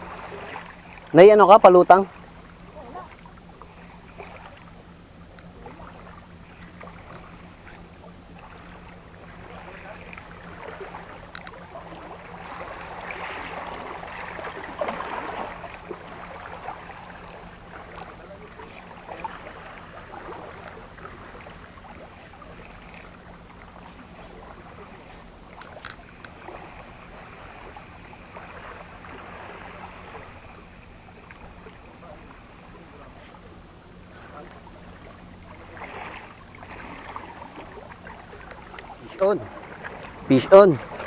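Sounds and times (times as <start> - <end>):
waves lapping against rocks: 0.0 - 41.0.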